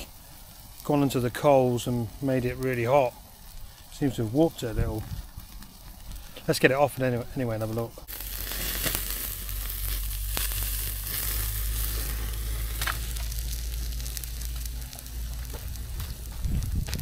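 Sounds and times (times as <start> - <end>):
steak sizzling: 0.0 - 17.0.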